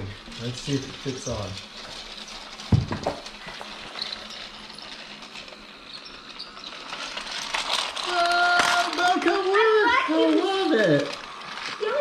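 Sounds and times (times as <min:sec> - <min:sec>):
toy train running on plastic track: 0:00.0 - 0:12.0.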